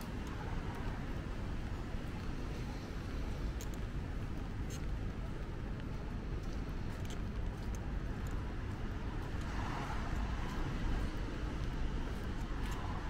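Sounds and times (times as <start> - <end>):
low rumble of city traffic: 0.0 - 13.0.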